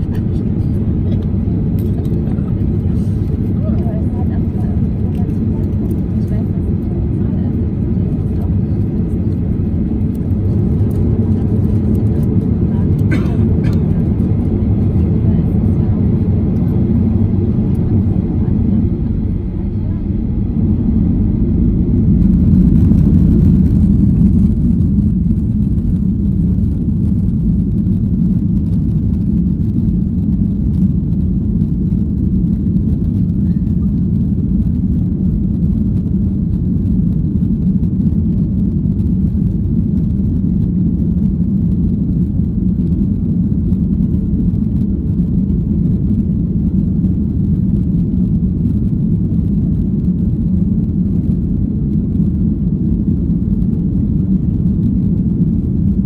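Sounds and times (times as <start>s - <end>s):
airplane cabin rumble while taxiing: 0.0s - 56.0s.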